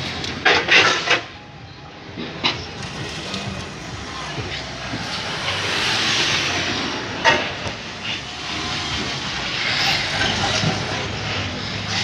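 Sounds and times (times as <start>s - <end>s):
vehicle noise with hiss: 0.0s - 12.0s.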